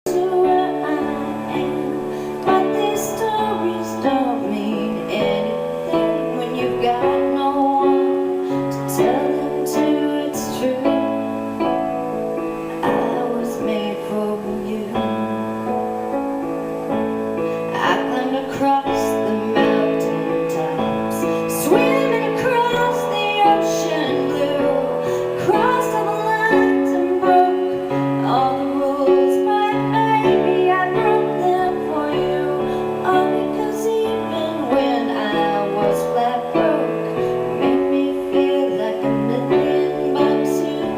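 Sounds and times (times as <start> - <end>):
woman singing with accompaniment: 0.0 - 40.9.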